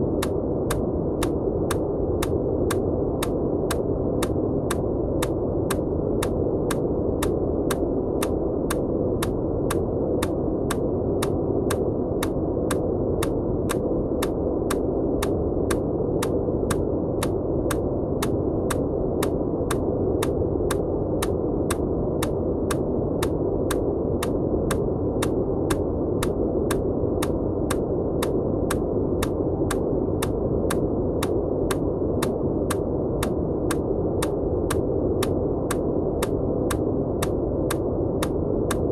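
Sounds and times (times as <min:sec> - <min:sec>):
muffled white noise hiss: 0:00.0 - 0:38.9
regular ticking clicks: 0:00.2 - 0:38.9.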